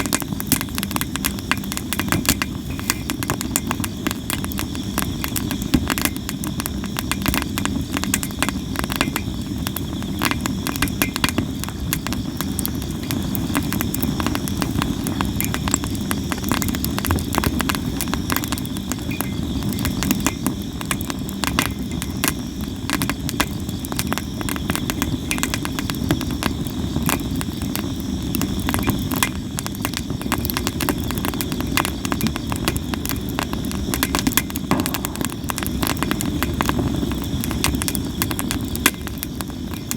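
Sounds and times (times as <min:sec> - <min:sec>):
campfire crackling and popping: 0:00.0 - 0:39.9
insect trill: 0:00.0 - 0:39.9
low rumble of flames: 0:00.0 - 0:39.9.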